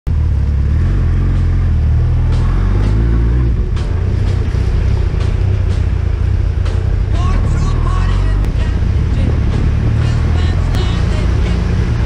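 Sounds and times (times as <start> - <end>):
motorcycle engine rumbling: 0.1 - 12.0.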